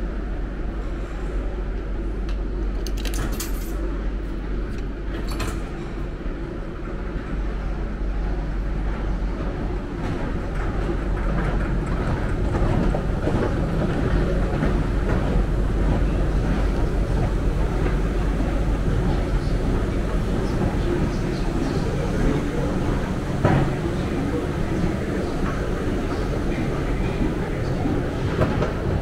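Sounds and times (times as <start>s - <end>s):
low machinery rumble: 0.0s - 29.0s.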